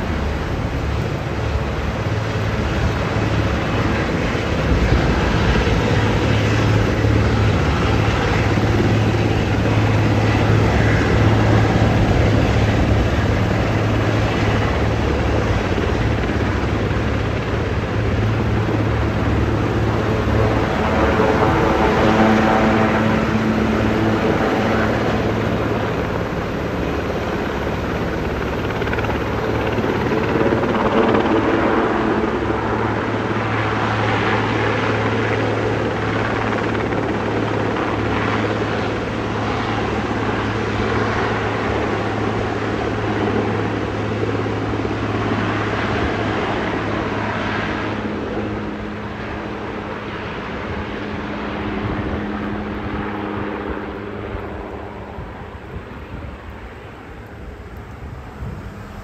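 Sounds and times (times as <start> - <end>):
helicopter lifting off: 0.0 - 59.0.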